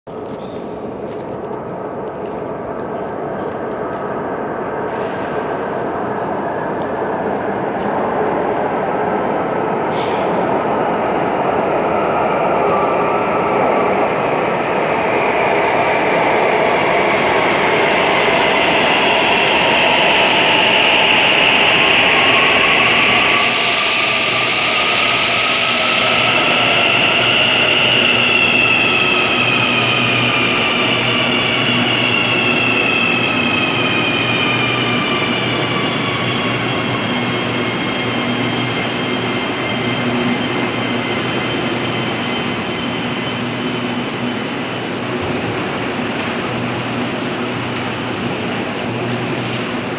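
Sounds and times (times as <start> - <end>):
train rumble with whining tones: 0.1 - 49.9.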